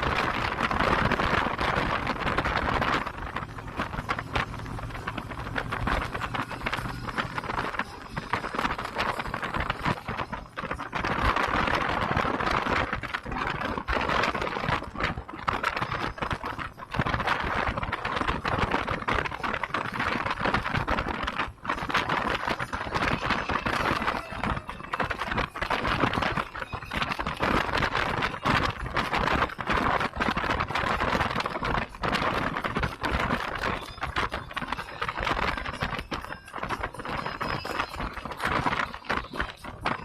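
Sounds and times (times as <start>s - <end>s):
road noise: 0.0s - 40.0s
wind buffeting microphone: 0.0s - 40.0s.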